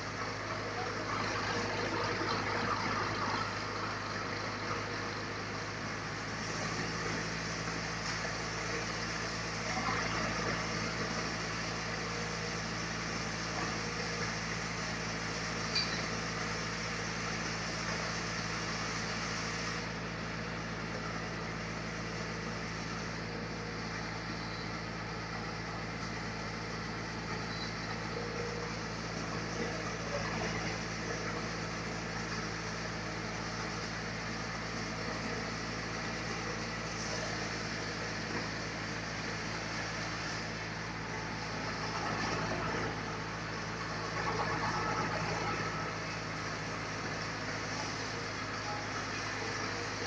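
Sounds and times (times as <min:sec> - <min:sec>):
sawmill machinery humming: 0:00.0 - 0:50.0.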